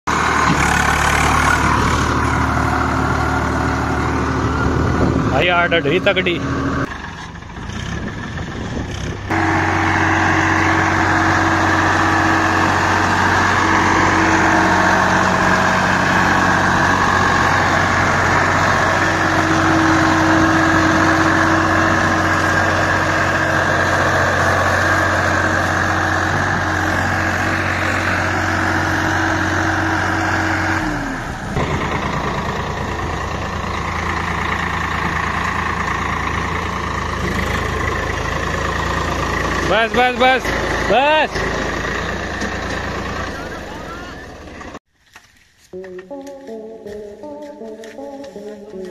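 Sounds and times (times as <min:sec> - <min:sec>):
tractor diesel engine revving: 0:00.0 - 0:44.8.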